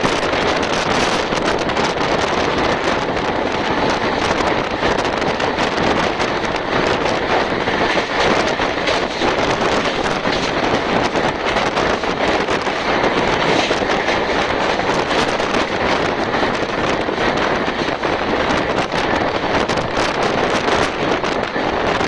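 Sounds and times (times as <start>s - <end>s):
train running at speed: 0.0s - 22.0s
wind buffeting microphone: 0.0s - 22.0s.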